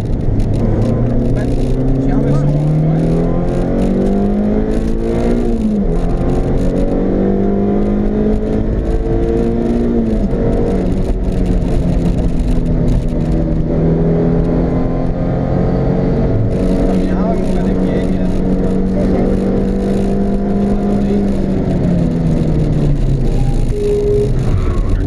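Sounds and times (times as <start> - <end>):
car engine accelerating: 0.0 - 25.0
road and wind noise: 0.0 - 25.0.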